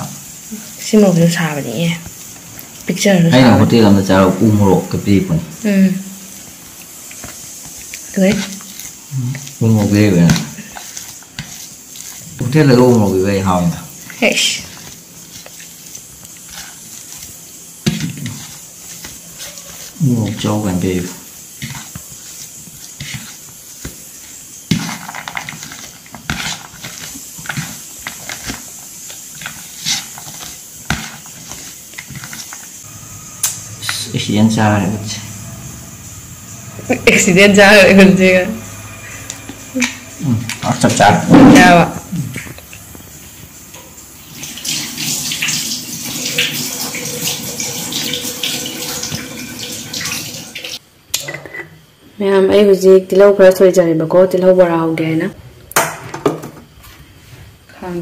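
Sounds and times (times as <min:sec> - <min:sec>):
water running from a tap: 0:00.0 - 0:50.8.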